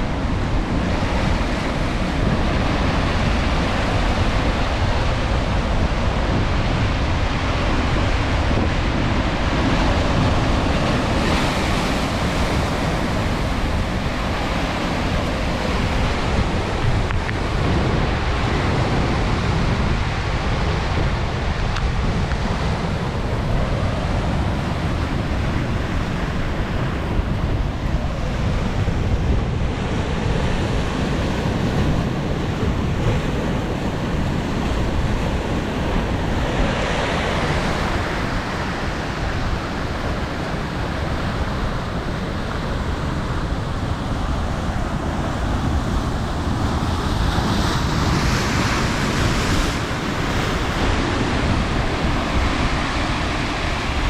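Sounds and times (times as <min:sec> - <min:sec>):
sea waves rushing: 0:00.0 - 0:54.0
wind buffeting microphone: 0:00.0 - 0:54.0.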